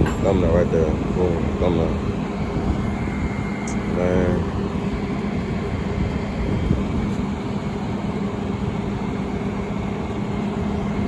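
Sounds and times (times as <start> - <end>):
outdoor rumble: 0.0 - 11.0.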